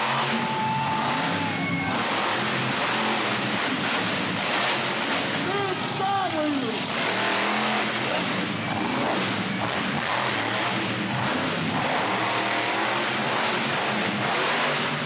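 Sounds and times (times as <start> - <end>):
tires spinning on dirt: 0.0 - 15.0
truck engine at high revs: 0.0 - 15.0.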